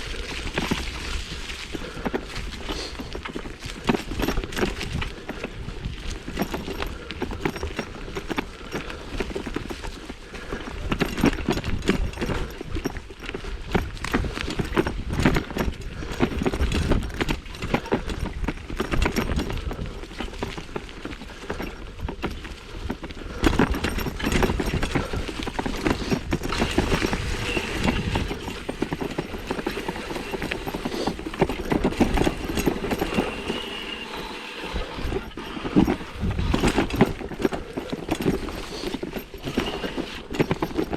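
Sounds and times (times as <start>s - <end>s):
mountain bike rattling: 0.0s - 40.9s.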